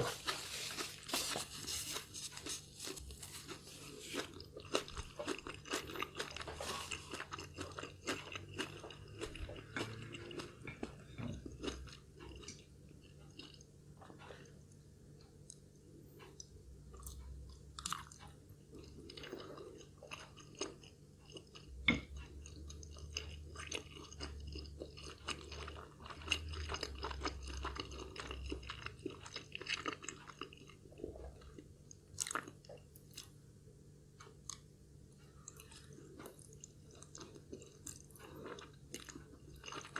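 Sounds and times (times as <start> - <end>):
person chewing food: 0.0 - 33.4, 34.1 - 39.9.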